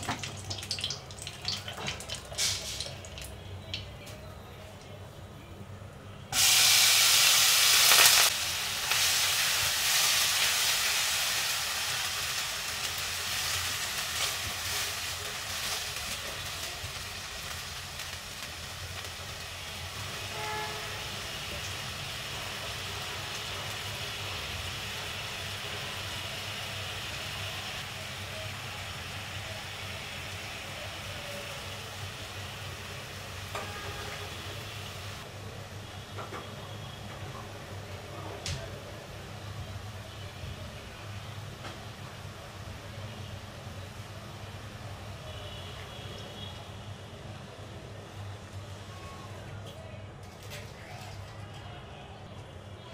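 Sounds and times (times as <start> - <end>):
coconut sizzling in hot ghee: 0.0 - 3.9, 6.3 - 38.1, 38.7 - 49.4.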